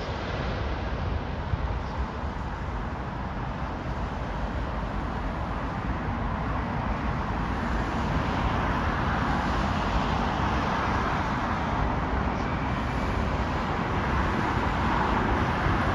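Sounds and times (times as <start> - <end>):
distant jet engines roaring: 0.0 - 15.9.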